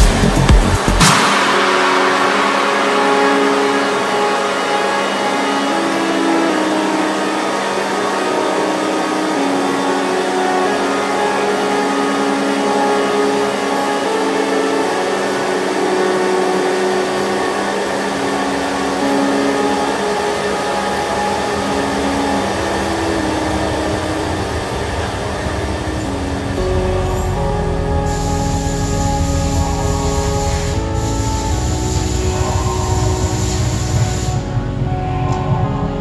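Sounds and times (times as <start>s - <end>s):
lathe motor hum with whine: 1.4s - 35.0s.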